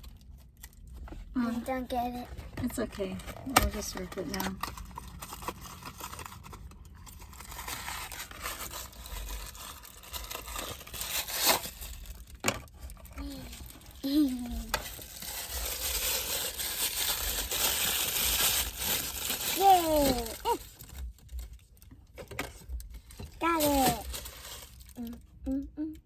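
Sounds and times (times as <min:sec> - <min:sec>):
plastic wrapper crinkling and tearing: 0:00.0 - 0:25.4.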